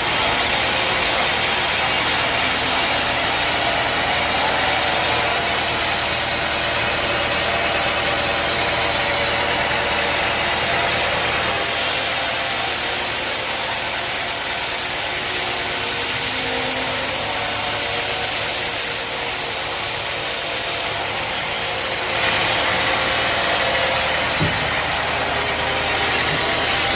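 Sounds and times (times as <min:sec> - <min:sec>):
sawmill machinery running: 0:00.0 - 0:26.9.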